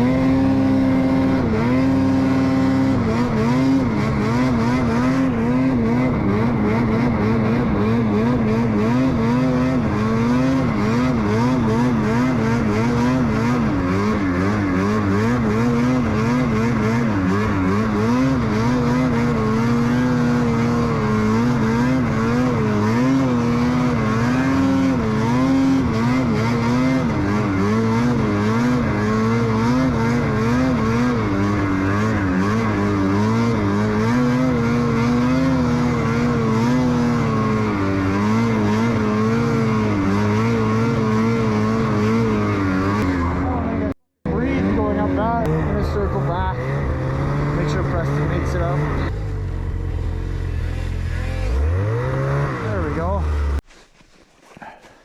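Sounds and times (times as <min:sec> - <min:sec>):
snowmobile engine revving: 0:00.0 - 0:53.6, 0:54.4 - 0:55.0.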